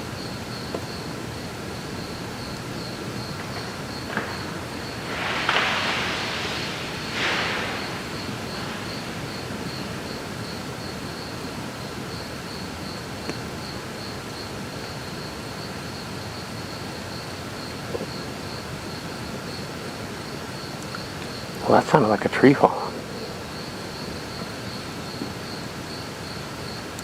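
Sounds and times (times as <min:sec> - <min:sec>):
background hiss: 0:00.0 - 0:27.0
insect chirping: 0:00.0 - 0:27.0.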